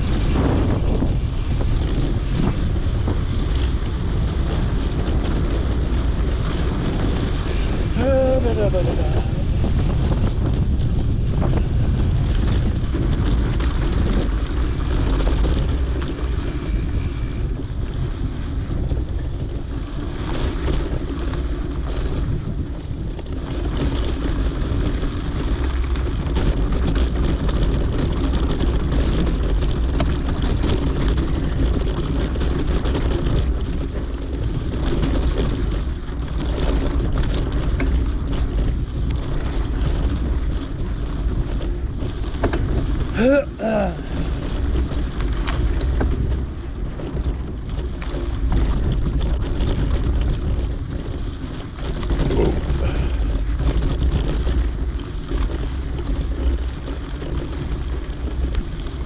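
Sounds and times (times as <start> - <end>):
bike clicks and rattles: 0.0 - 59.0
mountain bike rumbling on dirt: 0.0 - 59.0
wind buffeting microphone: 0.0 - 59.0.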